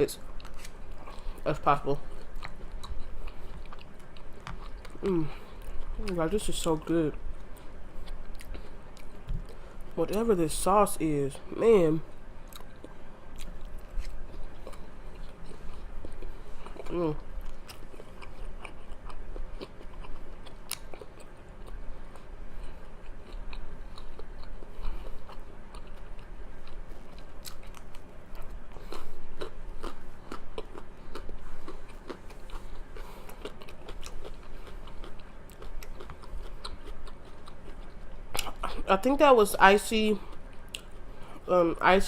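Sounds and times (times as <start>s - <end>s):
chewing and biting dumplings: 0.2s - 10.0s, 12.4s - 38.9s, 40.2s - 41.5s.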